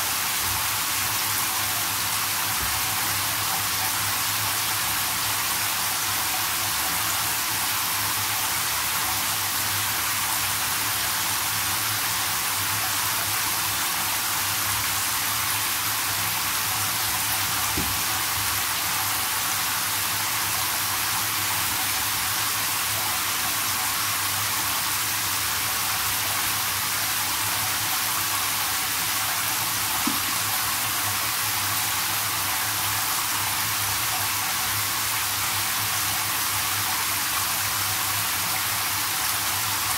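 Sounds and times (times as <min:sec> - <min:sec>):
shower water splashing into tub: 0:00.0 - 0:39.9.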